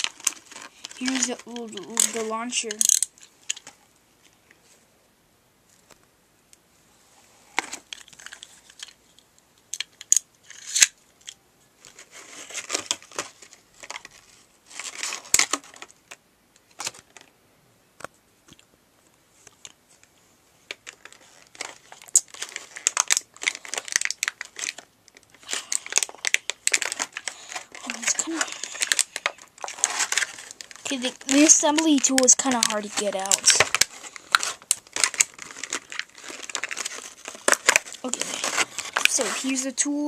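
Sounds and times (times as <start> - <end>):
plastic packaging crinkling and tearing: 0.0 - 4.4, 7.6 - 17.3, 20.7 - 40.0.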